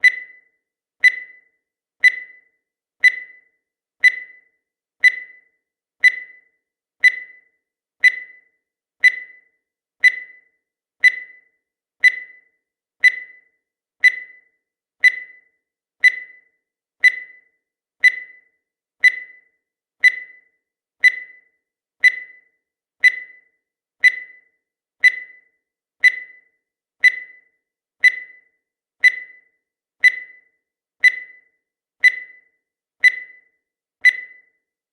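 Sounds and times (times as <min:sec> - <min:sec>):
timer electronic beeps: 0:00.0 - 0:34.8.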